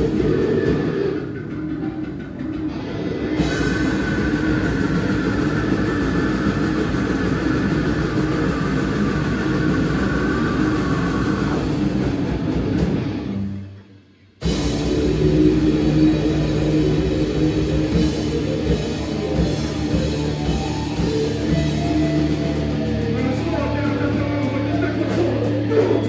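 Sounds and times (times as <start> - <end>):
metal band playing live: 0.0 - 26.0.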